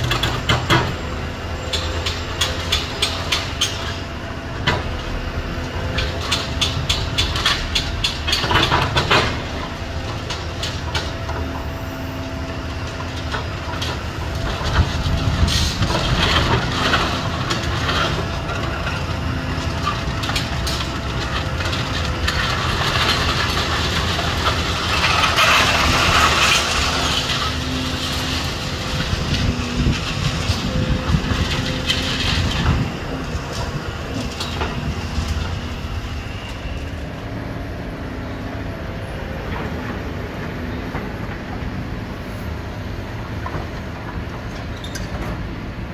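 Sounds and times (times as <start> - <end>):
concrete crunching and clattering: 0.0 - 37.1
excavator diesel engine running: 0.0 - 45.9.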